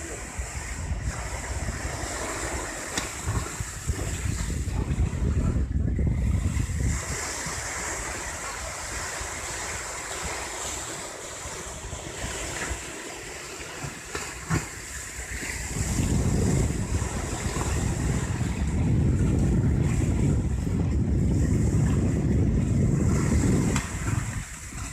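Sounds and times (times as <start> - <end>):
sea waves rushing: 0.0 - 24.9
wind buffeting microphone: 0.0 - 24.9.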